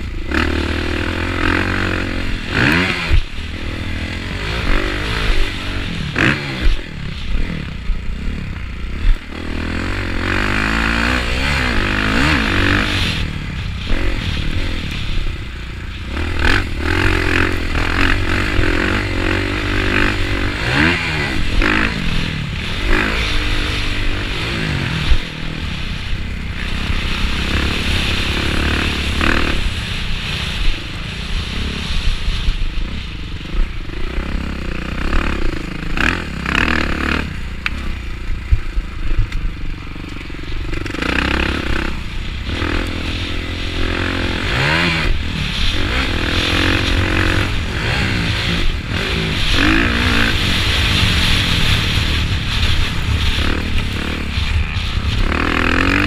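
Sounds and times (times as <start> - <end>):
motocross bike engine revving: 0.0 - 56.0
rattling from rough ground: 0.0 - 56.0.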